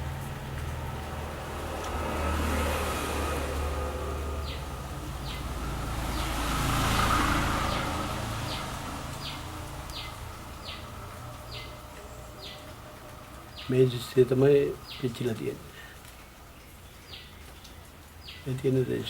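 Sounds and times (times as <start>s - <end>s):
vehicle passing by: 0.0s - 15.5s.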